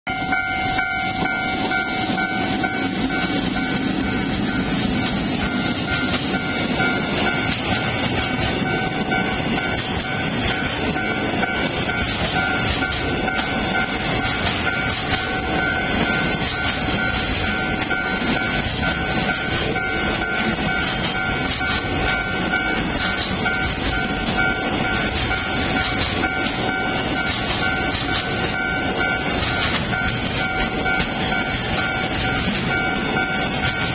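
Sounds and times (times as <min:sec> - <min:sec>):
pulsing ringing tone: 0:00.1 - 0:33.9
train wheels clattering over rails: 0:00.2 - 0:33.9.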